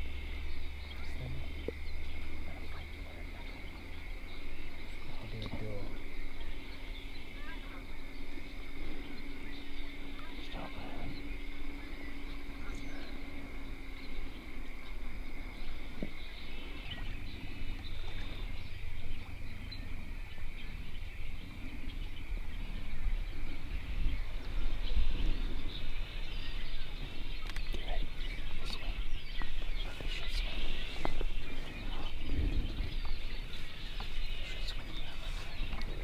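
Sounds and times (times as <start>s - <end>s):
high-pitched bird chatter: 0.0s - 36.0s
wind rumble on microphone: 0.0s - 36.0s.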